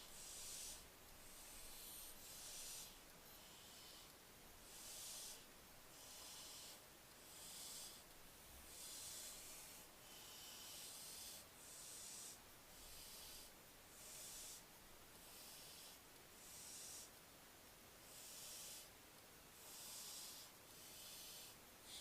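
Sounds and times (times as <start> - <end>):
owl chick hissing calls: 0.0 - 8.0, 8.7 - 17.2, 18.0 - 18.9, 19.6 - 22.0.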